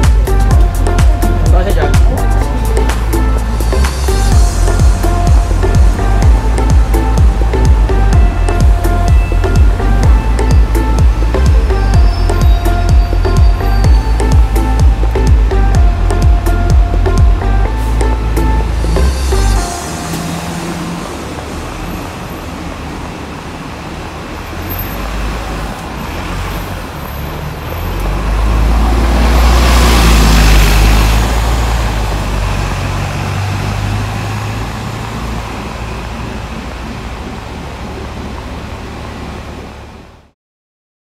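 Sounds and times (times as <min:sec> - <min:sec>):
diesel bus driving past: 0:00.0 - 0:40.4
street traffic: 0:00.0 - 0:40.4.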